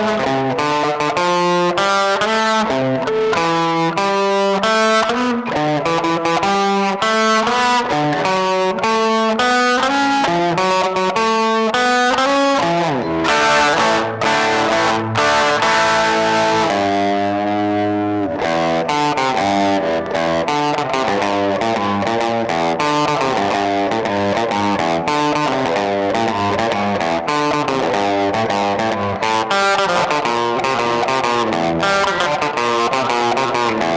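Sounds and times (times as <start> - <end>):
distorted electric guitar: 0.0 - 33.9.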